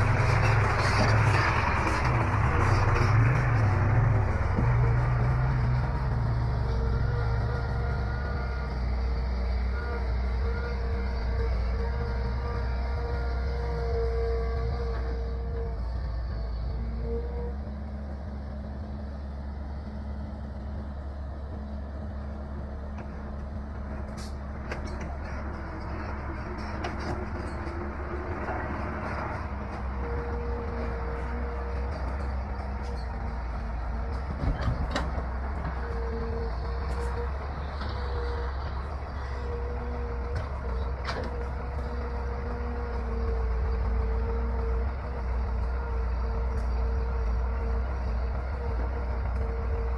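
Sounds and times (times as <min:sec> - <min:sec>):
diesel engine running: 0:00.0 - 0:49.9
hydraulic whine: 0:00.0 - 0:49.9.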